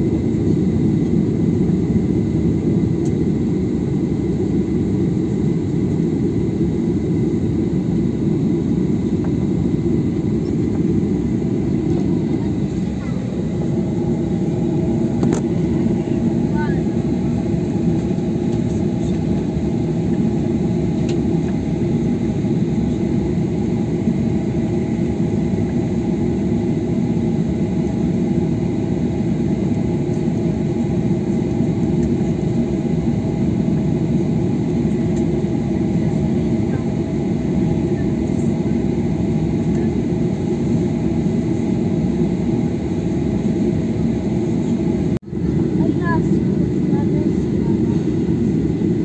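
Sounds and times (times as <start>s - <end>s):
jet engine cabin hum: 0.0s - 49.0s.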